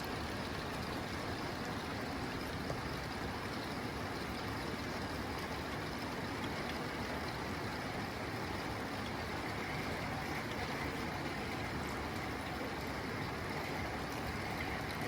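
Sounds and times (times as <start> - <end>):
rain on a tin roof: 0.0 - 15.0.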